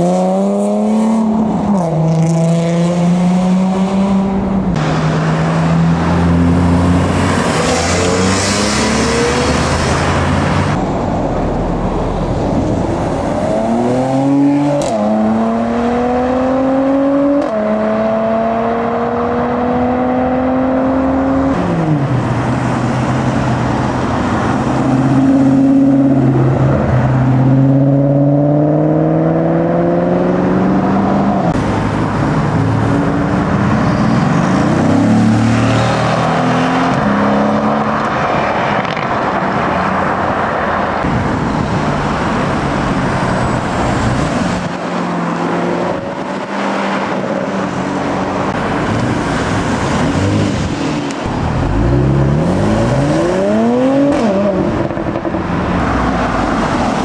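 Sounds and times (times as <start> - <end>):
car engines accelerating: 0.0 - 57.0.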